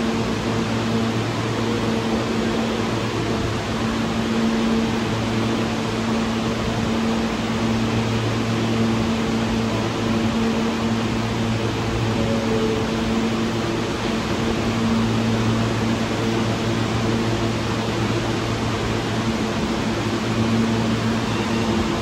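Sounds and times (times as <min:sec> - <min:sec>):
low electrical hum: 0:00.0 - 0:22.0
steady rush of station noise: 0:00.0 - 0:22.0.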